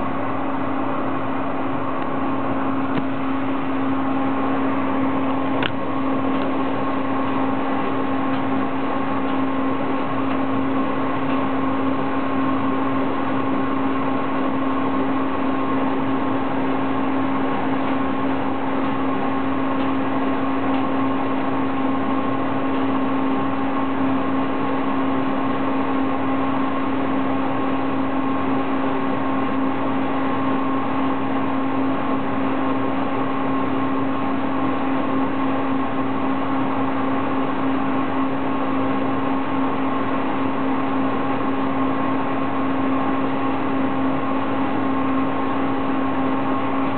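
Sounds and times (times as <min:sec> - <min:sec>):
clothes dryer running: 0:00.0 - 0:46.9.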